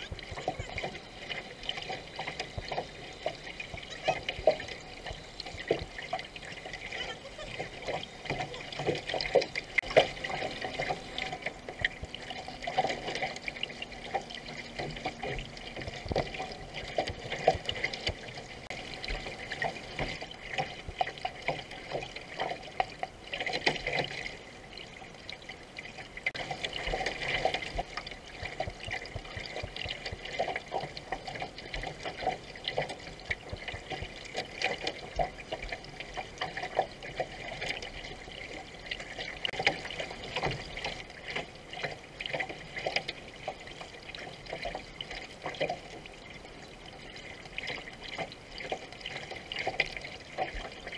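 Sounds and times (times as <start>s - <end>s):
paddle splashes: 0.0s - 50.9s
water washing along hull: 0.0s - 50.9s.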